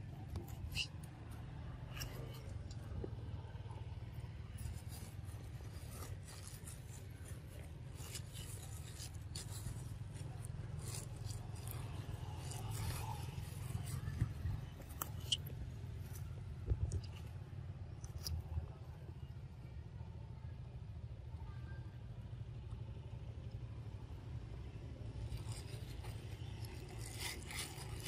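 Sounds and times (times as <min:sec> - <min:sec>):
small clicks and rustles: 0:00.0 - 0:19.4, 0:24.8 - 0:28.0.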